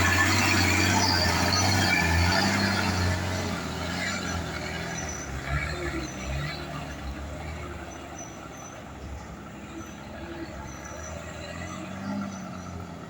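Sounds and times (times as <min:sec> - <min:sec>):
diesel truck engine pulling hard: 0:00.0 - 0:13.0.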